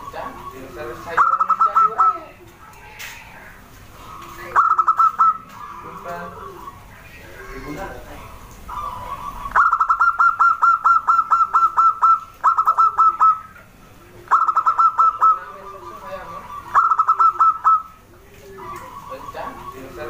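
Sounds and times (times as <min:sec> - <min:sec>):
dove calling: 0:00.0 - 0:20.0.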